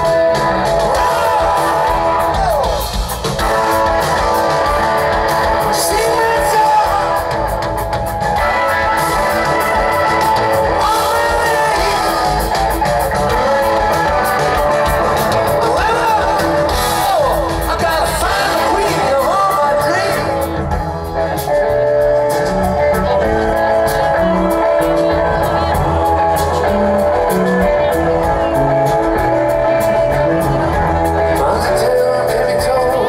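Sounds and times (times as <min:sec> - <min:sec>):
drums: 0:00.0 - 0:33.0
electric guitar sliding notes: 0:00.0 - 0:33.0.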